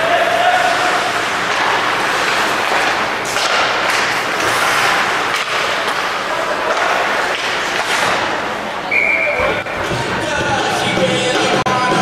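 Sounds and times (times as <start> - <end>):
hockey play and crowd noise: 0.0 - 12.0.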